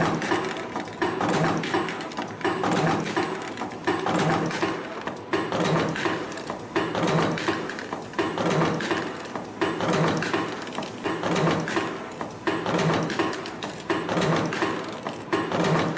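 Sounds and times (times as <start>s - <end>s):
spring-forming machine running: 0.0s - 15.9s.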